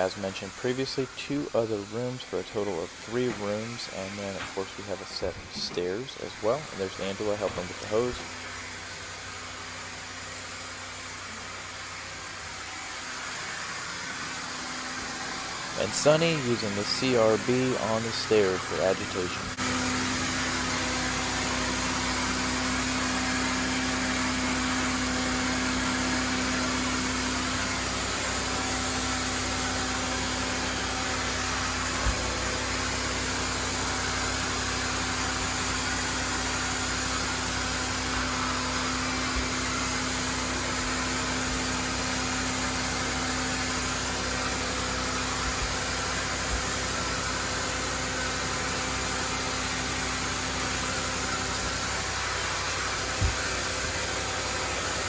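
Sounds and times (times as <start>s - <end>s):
carpet cleaning machine rushing: 0.0s - 55.0s.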